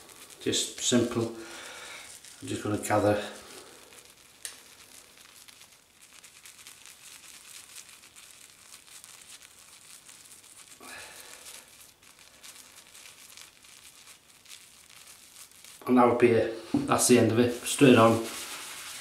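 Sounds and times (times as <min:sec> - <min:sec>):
shaving brush rubbing on soap: 0:00.0 - 0:19.0.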